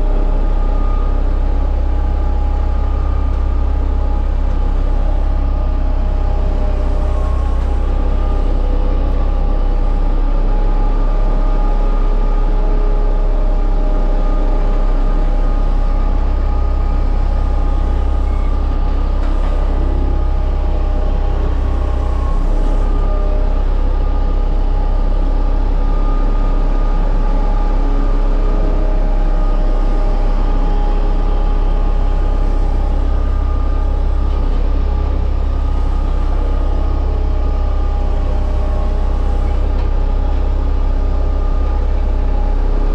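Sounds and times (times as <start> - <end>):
roller compactor engine rumble: 0.0 - 42.9.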